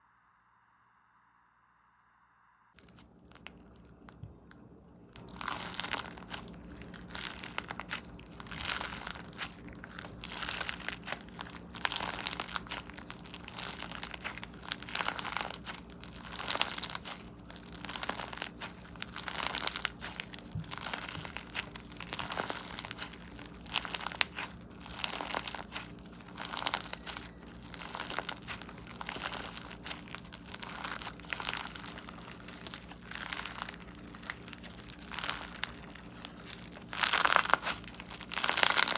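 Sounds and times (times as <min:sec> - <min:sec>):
crunchy slime crackling: 0:02.8 - 0:38.9.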